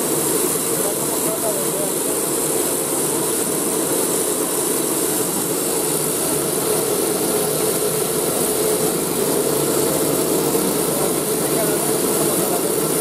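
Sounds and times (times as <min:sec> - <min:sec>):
cotton candy machine whirring: 0:00.0 - 0:13.0.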